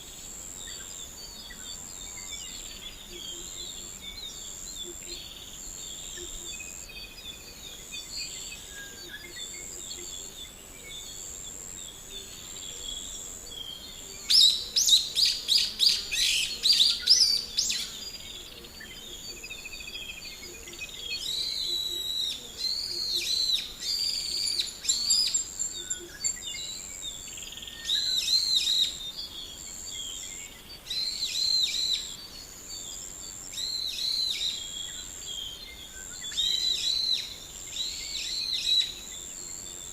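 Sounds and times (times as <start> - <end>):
birds calling and singing: 0.0 - 39.9.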